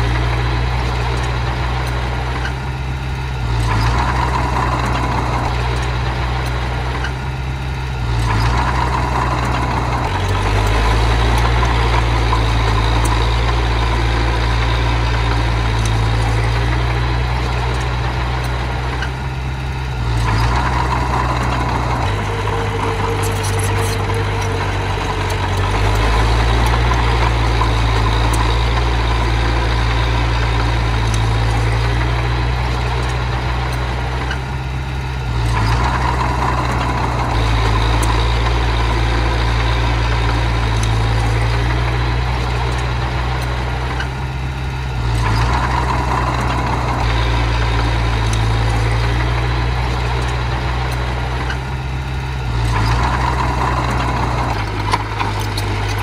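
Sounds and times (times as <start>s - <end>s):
miniature bulldozer engine running: 0.0s - 56.0s.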